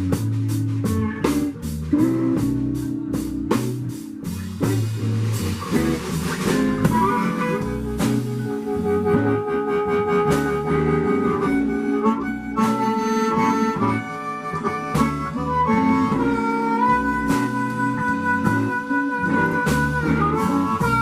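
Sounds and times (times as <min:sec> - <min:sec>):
blues guitar and drums: 0:00.0 - 0:21.0
harmonica bending notes: 0:00.0 - 0:21.0.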